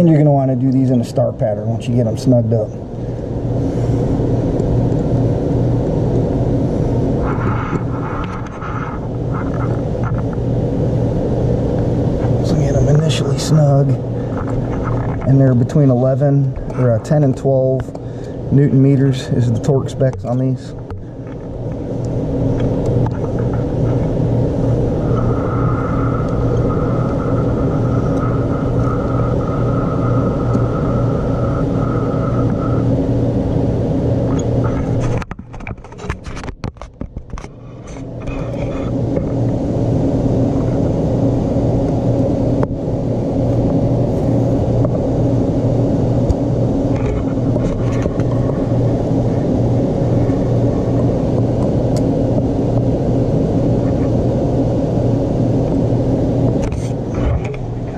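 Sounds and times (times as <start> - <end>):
machine low hum: 0.0 - 57.9
thin high whine: 0.0 - 57.9.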